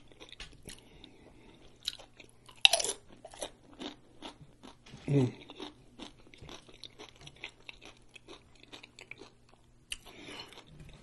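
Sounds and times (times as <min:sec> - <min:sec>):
chips crunching while chewed: 0:01.6 - 0:11.0.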